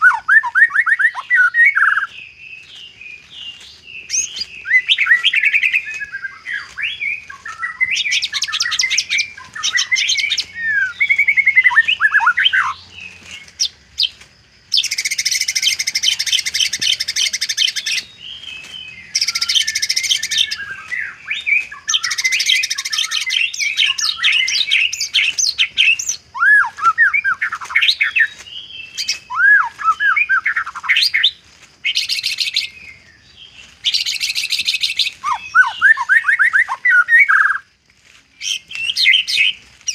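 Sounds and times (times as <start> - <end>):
bird singing whistled song: 0.0 - 37.7, 38.3 - 39.9.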